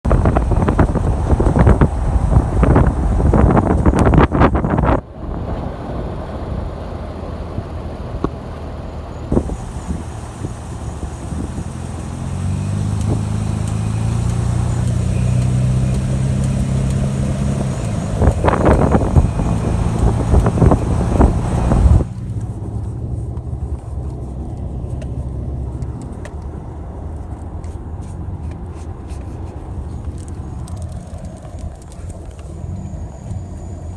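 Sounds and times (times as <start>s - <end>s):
engine rumble with low drone: 0.0s - 33.9s
truck engine grinding: 0.0s - 33.9s.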